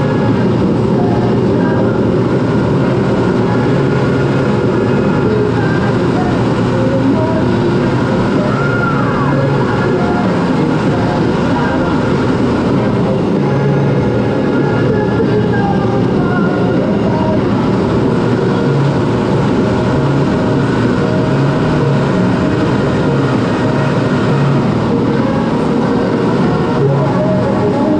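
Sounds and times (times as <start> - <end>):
air rushing: 0.0 - 27.9
faint wavering whine: 0.0 - 27.9
jet engine roar: 0.0 - 27.9.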